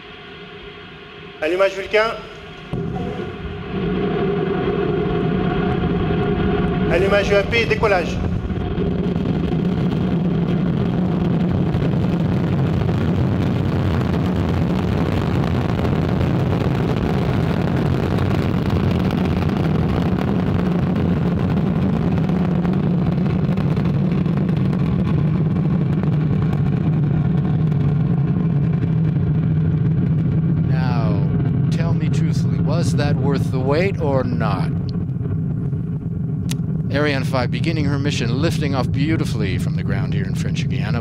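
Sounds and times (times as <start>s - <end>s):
rocket engine roaring: 0.0s - 41.0s.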